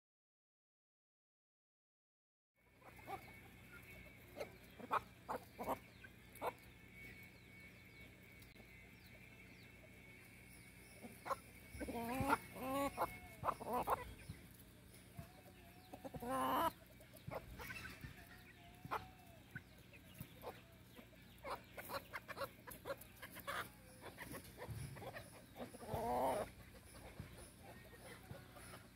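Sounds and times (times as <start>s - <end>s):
chickens clucking: 2.7s - 28.9s.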